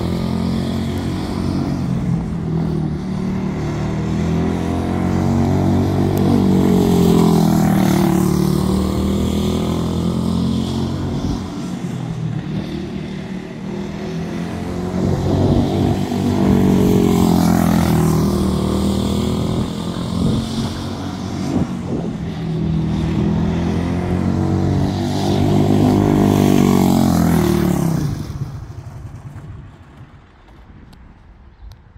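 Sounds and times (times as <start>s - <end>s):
race car engine passing: 0.0s - 29.9s.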